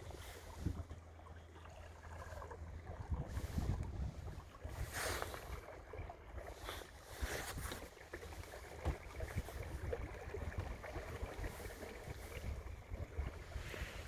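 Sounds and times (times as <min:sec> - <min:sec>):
wind rumble on microphone: 0:00.0 - 0:01.3, 0:02.1 - 0:14.0
water lapping against hull: 0:00.0 - 0:14.0
small splashes and ticks: 0:00.3 - 0:13.6.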